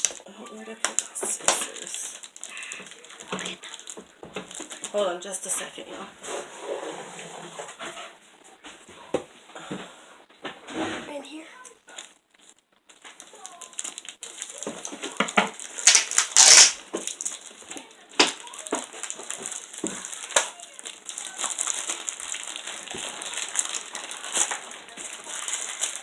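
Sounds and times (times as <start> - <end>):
packaging crinkling and rustling: 0.0 - 6.6, 11.6 - 26.0.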